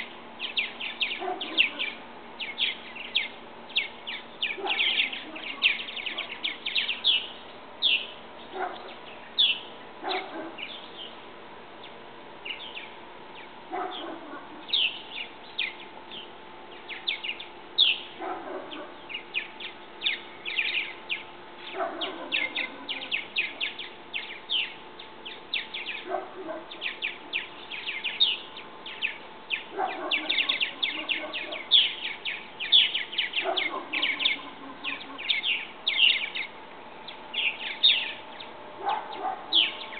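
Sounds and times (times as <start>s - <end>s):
coarse bird call: 0.0s - 11.0s, 13.7s - 36.5s, 37.4s - 39.9s
birds chirping rapidly: 0.0s - 39.9s.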